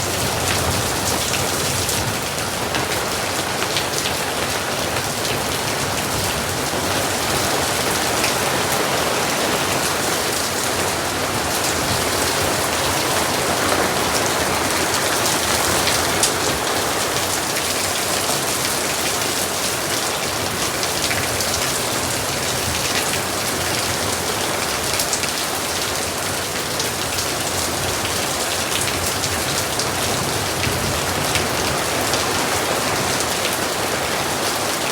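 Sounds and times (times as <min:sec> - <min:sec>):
rain on hard surfaces: 0:00.0 - 0:34.9.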